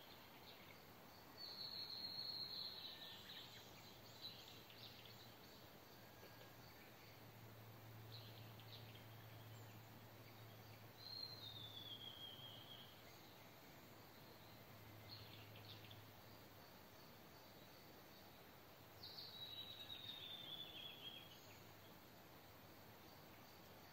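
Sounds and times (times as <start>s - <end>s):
faint outdoor ambience: 0.0s - 23.9s.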